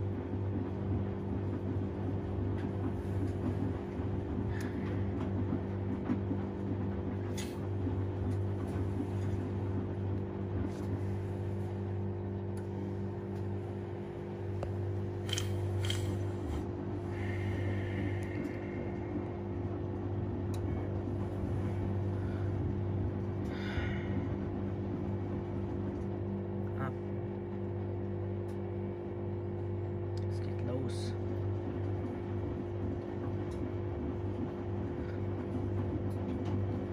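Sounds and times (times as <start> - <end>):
washing machine motor hum: 0.0 - 36.9.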